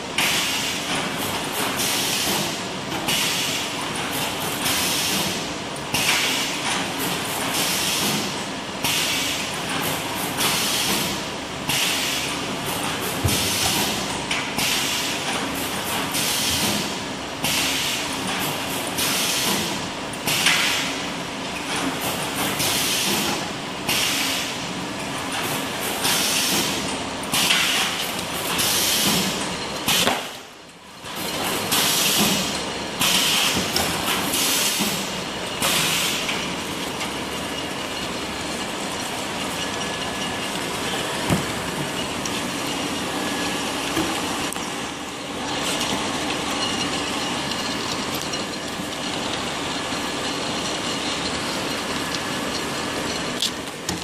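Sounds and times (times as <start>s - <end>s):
shrink wrapping machine running: 0.0s - 54.0s.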